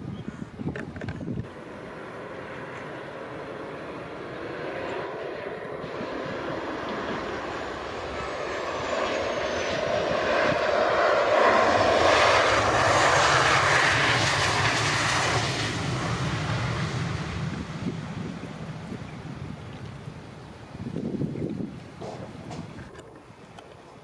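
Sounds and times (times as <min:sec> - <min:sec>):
airliner engines passing: 0:00.0 - 0:24.0.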